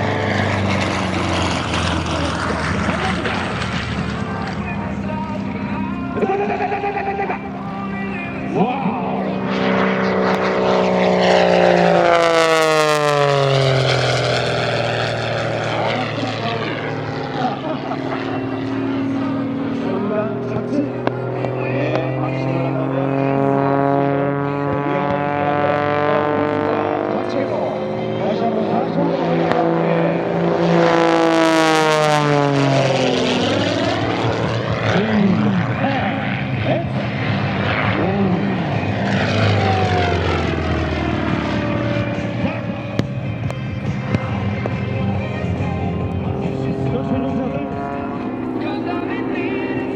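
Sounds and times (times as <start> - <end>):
biplane engine fly-past: 0.0 - 49.9
propeller plane passing fast: 0.0 - 49.9.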